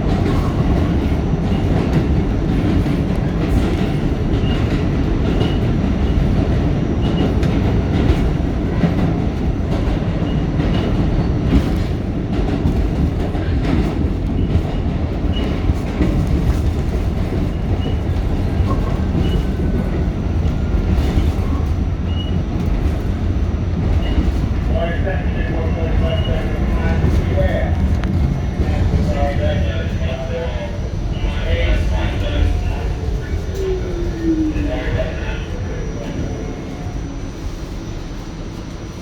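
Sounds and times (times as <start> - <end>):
subway car rumble: 0.0 - 39.0.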